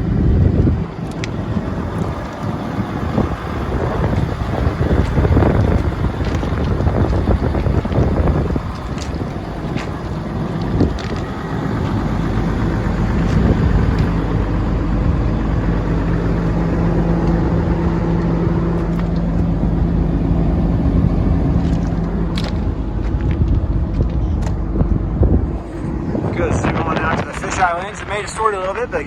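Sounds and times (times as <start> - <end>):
diesel engine humming: 0.0 - 29.0.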